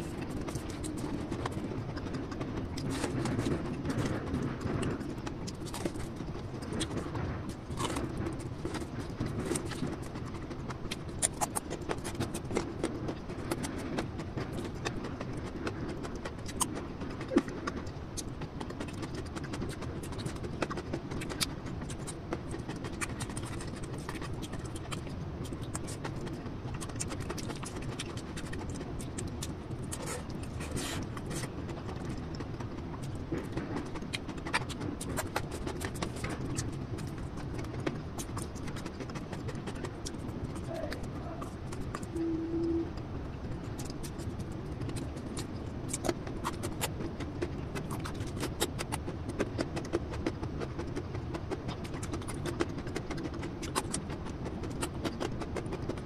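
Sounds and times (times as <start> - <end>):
chewing: 0.0 - 56.0.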